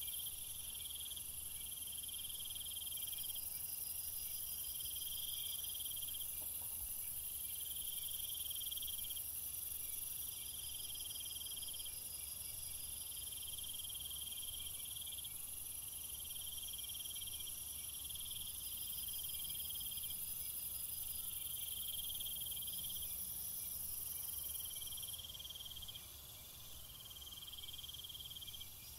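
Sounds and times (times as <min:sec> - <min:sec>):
insects chirping in trills: 0:00.0 - 0:28.9.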